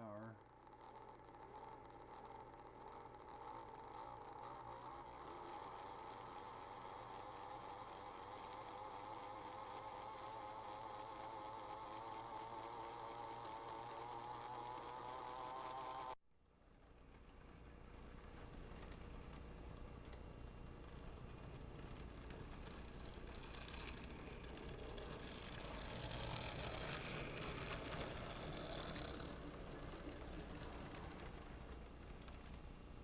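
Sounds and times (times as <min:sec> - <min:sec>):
model train motor whining: 0:00.0 - 0:33.0.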